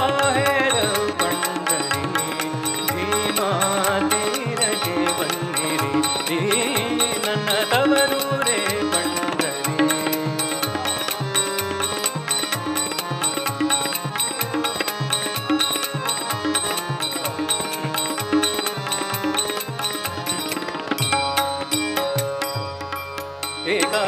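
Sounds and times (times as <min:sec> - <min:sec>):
harmonium and tanpura drone: 0:00.0 - 0:24.0
small hand cymbals: 0:00.0 - 0:24.0
tabla playing: 0:00.0 - 0:24.0.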